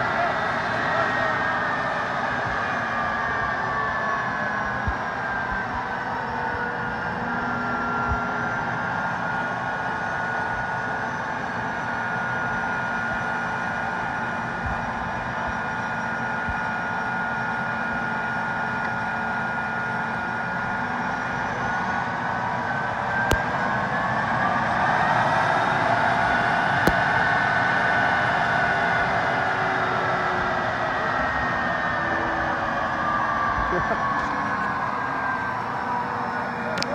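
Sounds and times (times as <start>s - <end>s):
turbine engine whining: 0.0s - 36.9s.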